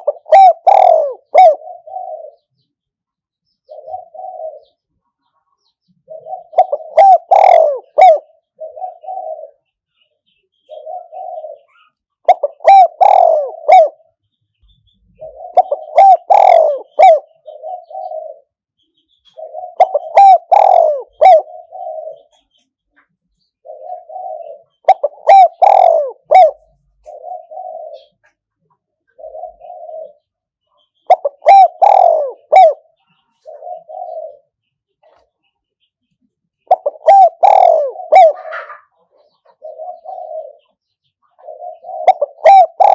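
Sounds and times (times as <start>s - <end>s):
dove cooing: 0.0s - 2.6s, 3.6s - 4.8s, 6.0s - 9.8s, 10.6s - 14.2s, 15.1s - 18.6s, 19.2s - 22.6s, 23.6s - 35.4s, 36.6s - 42.9s.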